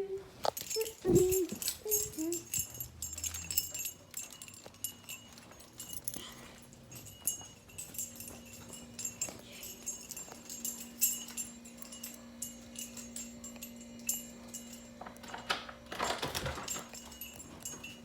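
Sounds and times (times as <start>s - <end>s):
light jingling and clicking: 0.0s - 18.0s.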